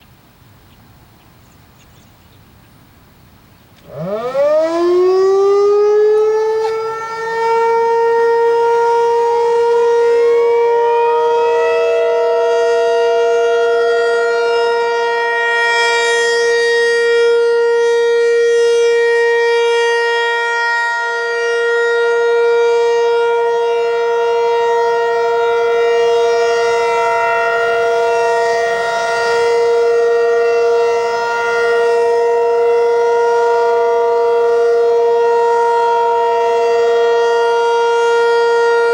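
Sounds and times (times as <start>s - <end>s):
warning siren two-note chord: 3.8s - 38.9s.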